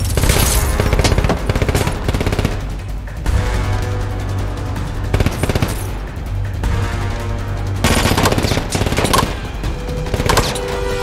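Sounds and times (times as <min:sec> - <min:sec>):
film score music: 0:00.0 - 0:11.0.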